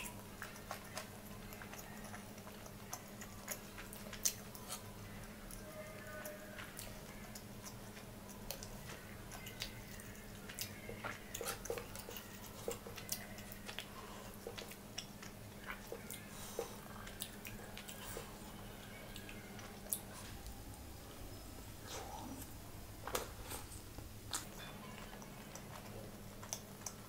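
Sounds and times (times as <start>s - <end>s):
chewing food: 0.0s - 27.0s
faint steady hum: 0.0s - 27.0s.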